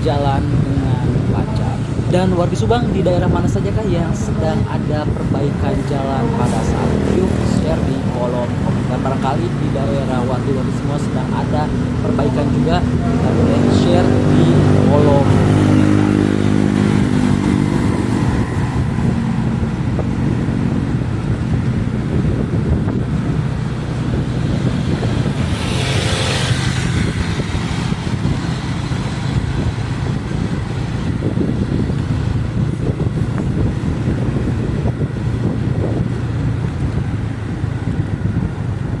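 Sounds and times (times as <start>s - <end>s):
road noise: 0.0s - 39.0s
rush of noise: 0.0s - 39.0s
vehicle engine running: 0.0s - 39.0s.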